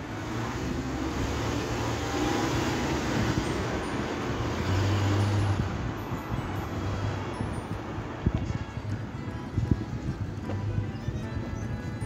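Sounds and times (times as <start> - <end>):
passing cars: 0.0 - 12.0.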